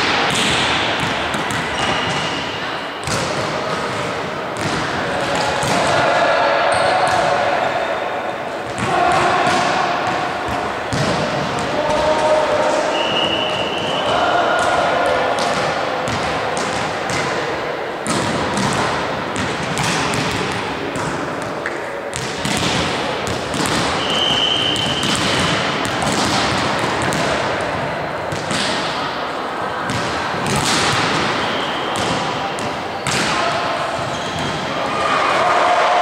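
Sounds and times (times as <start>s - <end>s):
volleyballs hit and bouncing: 0.0s - 7.8s, 8.5s - 35.5s.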